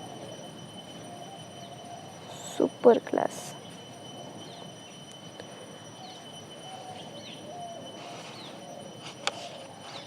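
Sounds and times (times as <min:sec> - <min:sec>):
birds chirping: 0:00.0 - 0:10.0
faint electrical whine: 0:00.0 - 0:10.0.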